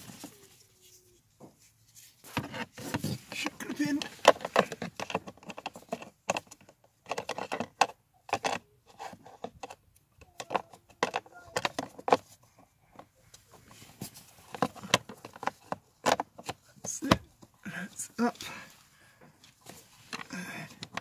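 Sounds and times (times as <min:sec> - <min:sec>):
plastic parts clicking and rattling: 0:02.3 - 0:18.6, 0:19.2 - 0:21.0.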